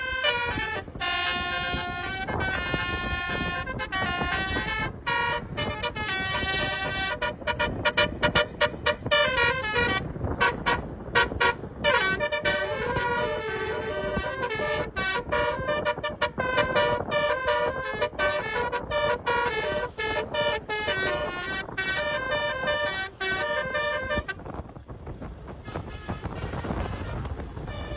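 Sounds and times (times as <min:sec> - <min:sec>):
bus horns tooting a melody: 0:00.0 - 0:24.7, 0:25.4 - 0:27.9.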